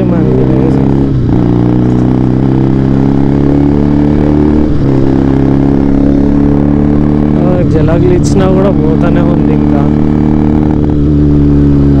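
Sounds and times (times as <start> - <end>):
motorcycle engine running and jerking: 0.0 - 12.0.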